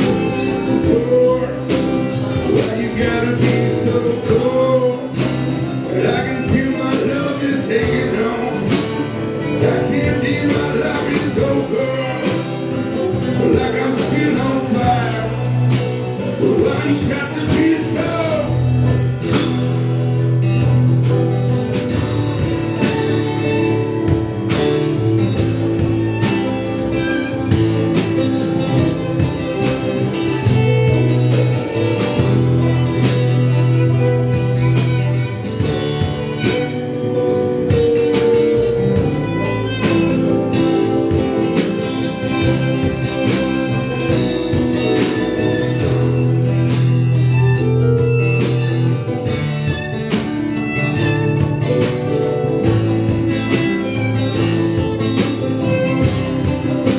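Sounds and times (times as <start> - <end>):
bass notes: 0.0 - 56.9
electric guitar: 0.0 - 56.9
steady drum beat: 0.0 - 56.9.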